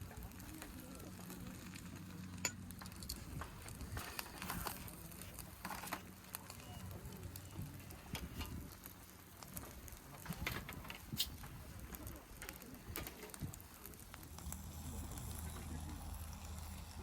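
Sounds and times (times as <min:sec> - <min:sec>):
sharp pops and clicks: 0:00.0 - 0:16.8
campfire crackling: 0:00.0 - 0:17.0.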